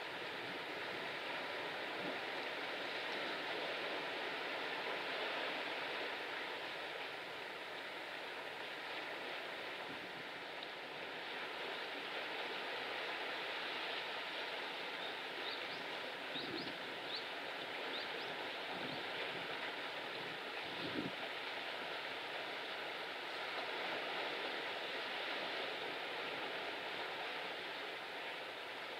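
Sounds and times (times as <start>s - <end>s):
sea waves: 0.0s - 28.9s.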